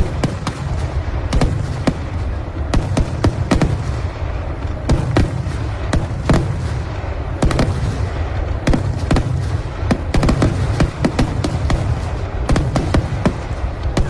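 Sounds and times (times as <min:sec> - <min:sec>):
continuous low rumble: 0:00.0 - 0:14.0
fireworks bangs: 0:00.0 - 0:14.0.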